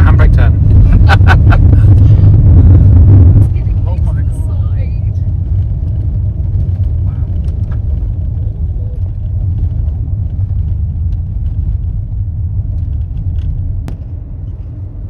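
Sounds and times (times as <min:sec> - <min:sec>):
tyres rumbling on dirt track: 0:00.0 - 0:15.0.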